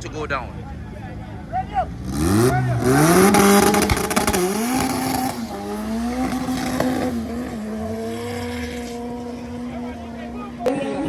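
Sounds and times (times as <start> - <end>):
tyre noise: 0.0 - 11.0
racing cars accelerating hard: 0.5 - 11.0.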